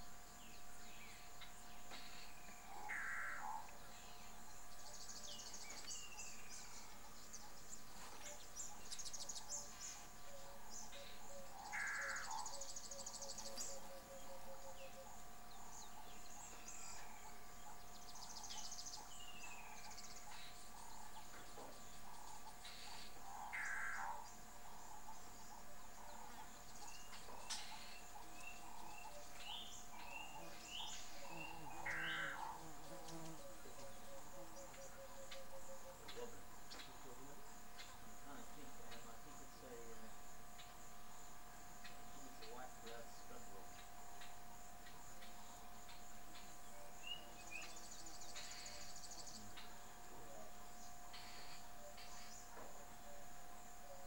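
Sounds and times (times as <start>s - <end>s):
birds calling: 0.0s - 54.0s
insects trilling and humming: 0.0s - 54.0s.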